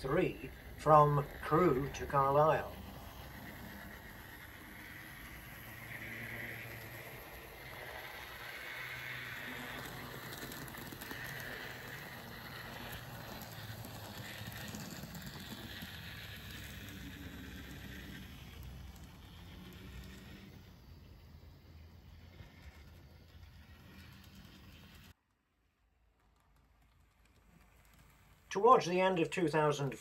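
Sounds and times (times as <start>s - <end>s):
model train motor whine: 0.0s - 25.1s, 26.3s - 30.0s
wheels clicking over rails: 0.0s - 25.2s, 26.0s - 30.0s.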